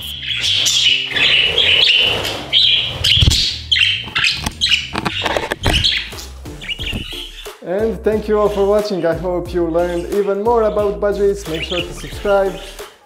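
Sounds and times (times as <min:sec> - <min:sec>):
budgerigars chattering: 0:00.0 - 0:07.6, 0:08.3 - 0:12.8.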